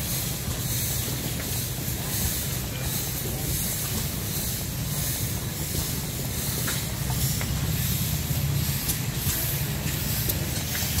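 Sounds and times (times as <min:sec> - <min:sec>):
steam engine rumble: 0:00.0 - 0:11.0
steam hissing: 0:00.0 - 0:11.0.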